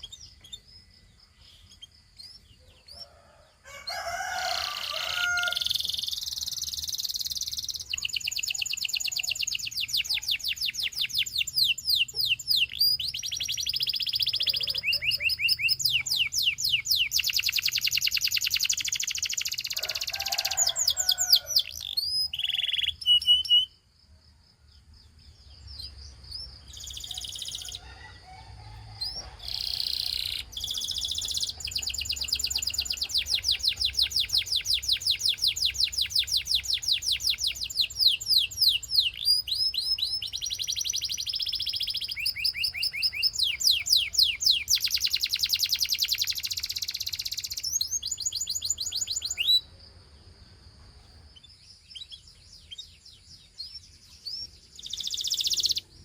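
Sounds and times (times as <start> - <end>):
canary singing trills: 0.0 - 23.9, 24.8 - 49.8, 51.0 - 56.0.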